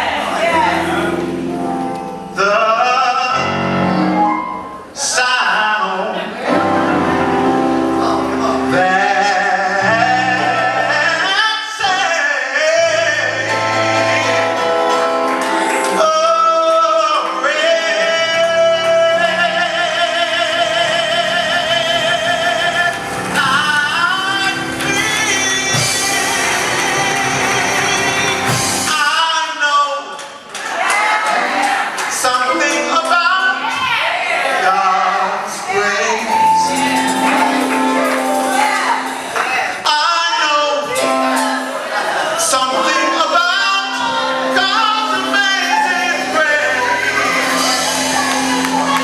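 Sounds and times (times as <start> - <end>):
instrumental accompaniment: 0.0 - 5.0, 6.4 - 29.7, 30.5 - 49.0
gospel choir singing: 0.0 - 49.0.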